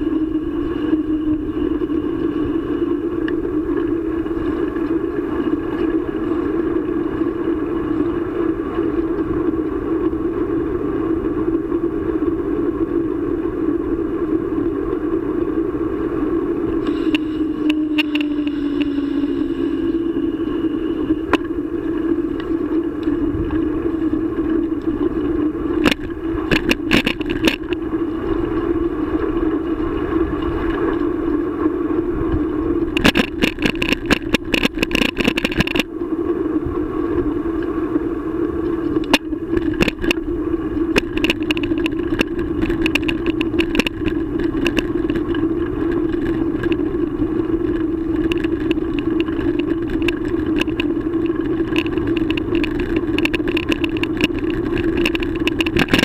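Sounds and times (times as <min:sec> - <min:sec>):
bicycle riding hum: 0:00.0 - 0:56.0
bike rattling over pavement: 0:00.0 - 0:56.0.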